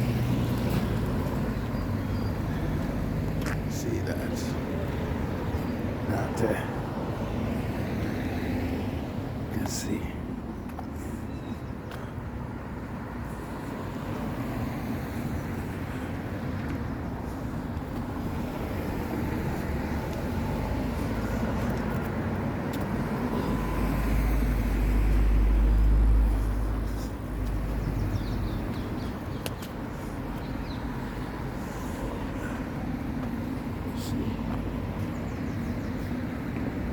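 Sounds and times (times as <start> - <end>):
cars going by: 0.0 - 36.9.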